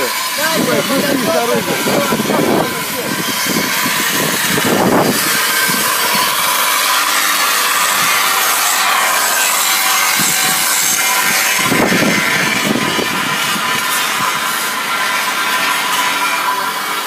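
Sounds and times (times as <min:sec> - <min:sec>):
power tool scraping metal: 0:00.0 - 0:17.0.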